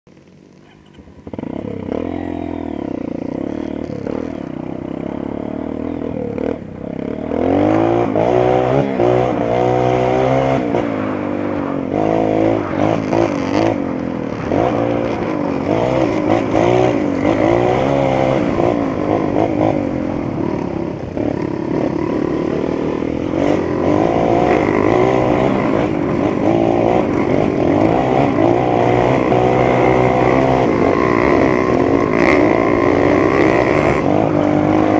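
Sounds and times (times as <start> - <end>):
motorbike engine revving: 0.6 - 34.9.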